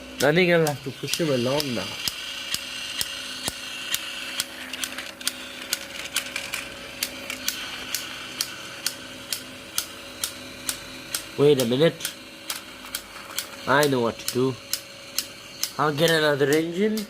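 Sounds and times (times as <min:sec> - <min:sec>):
small electric motor whirring: 0:00.1 - 0:17.0.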